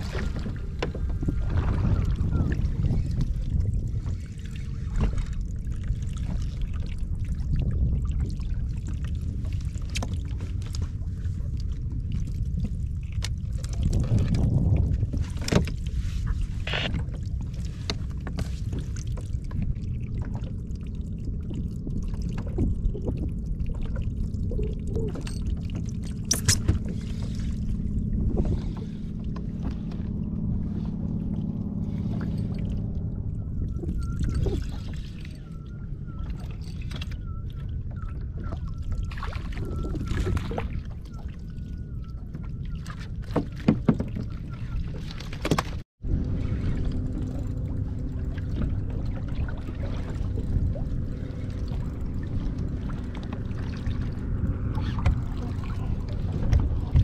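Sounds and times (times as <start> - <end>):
low rumble of wind: 0.0 - 57.0
water sloshing around kayak: 0.0 - 57.0.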